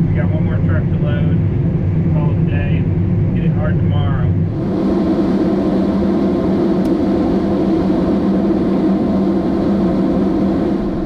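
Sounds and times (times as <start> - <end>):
engine and machinery drone: 0.0 - 11.0.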